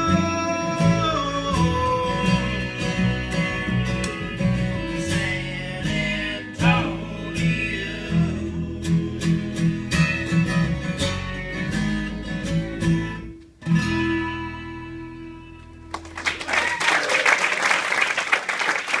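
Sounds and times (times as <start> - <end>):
acoustic folk string band: 0.0 - 16.4.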